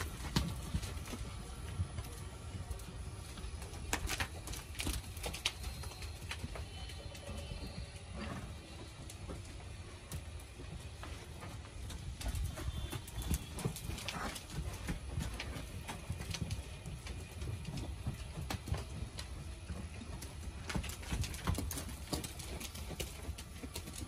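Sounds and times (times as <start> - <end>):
hooves clip-clopping on dirt: 0.0 - 24.0.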